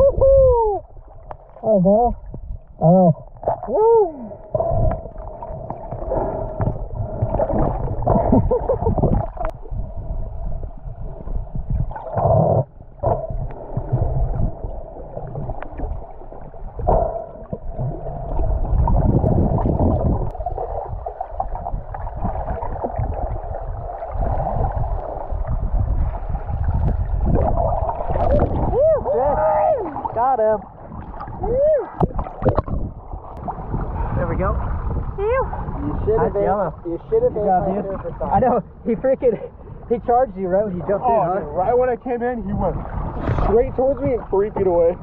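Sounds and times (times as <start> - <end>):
water sloshing and gurgling: 0.0 - 45.0.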